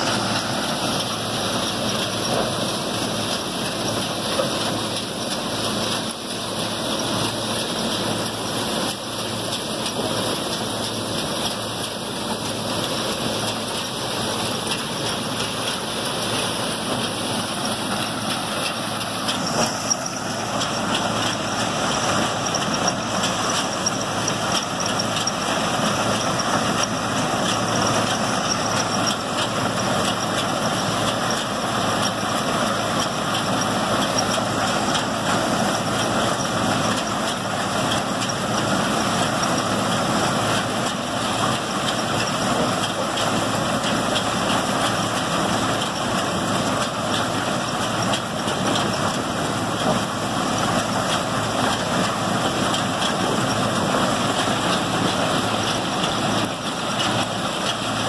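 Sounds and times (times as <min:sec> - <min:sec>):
combine machinery humming: 0:00.0 - 0:58.0
rattling hiss of crop: 0:00.0 - 0:58.0.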